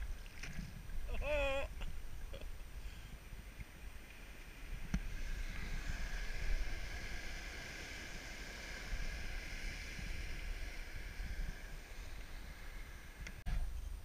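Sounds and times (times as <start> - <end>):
sea water splashing: 0.0 - 13.3
wind rumble on microphone: 0.0 - 14.0.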